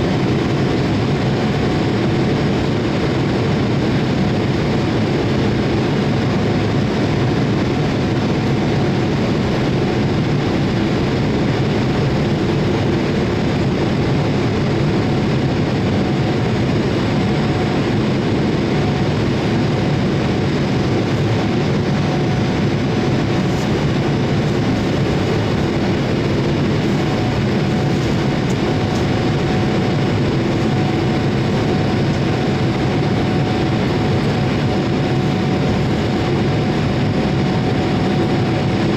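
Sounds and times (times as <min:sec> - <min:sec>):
jet engine and airflow noise: 0:00.0 - 0:38.9
faint steady whine: 0:07.0 - 0:38.9.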